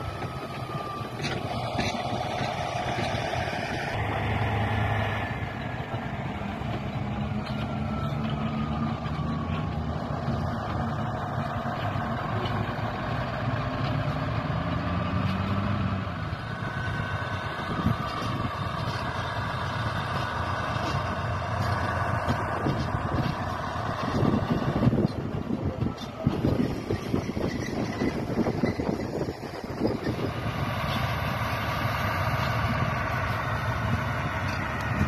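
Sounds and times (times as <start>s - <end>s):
diesel locomotive engine running: 0.0s - 35.0s.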